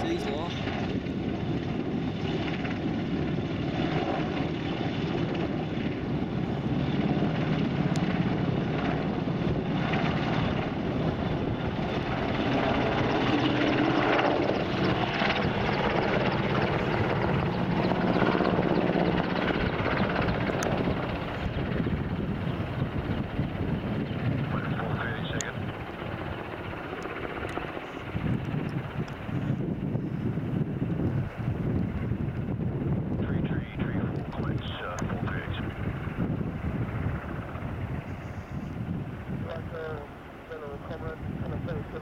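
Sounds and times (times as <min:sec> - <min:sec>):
helicopter flying past low: 0:00.0 - 0:42.0.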